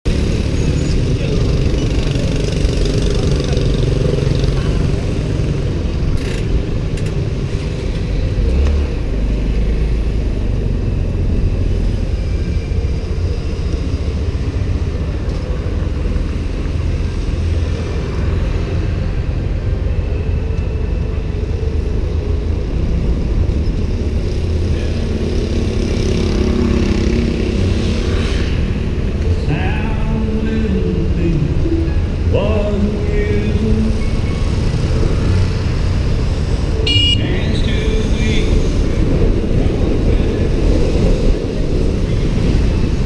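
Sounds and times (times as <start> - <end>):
surrounding traffic: 0.0 - 43.0
high-pitched vehicle sounds: 0.1 - 43.0
motorbike engine rumble: 0.1 - 43.0.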